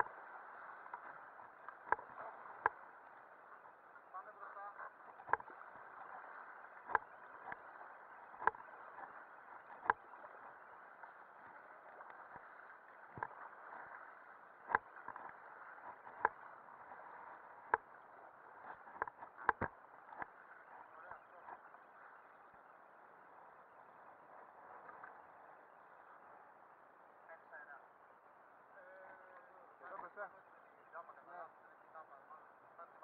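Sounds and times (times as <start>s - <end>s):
river water rushing: 0.0s - 27.2s.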